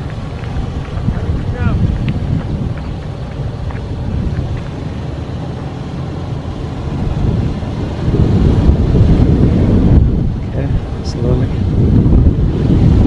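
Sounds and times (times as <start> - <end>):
engine rumbling off-road: 0.0 - 13.0
tyres on rough trail: 0.0 - 13.0.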